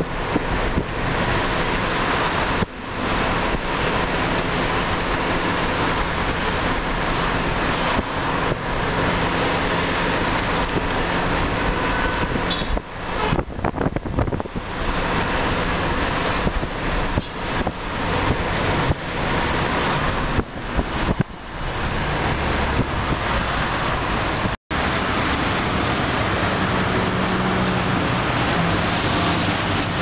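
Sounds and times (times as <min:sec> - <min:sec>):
road noise inside moving car: 0:00.0 - 0:30.0.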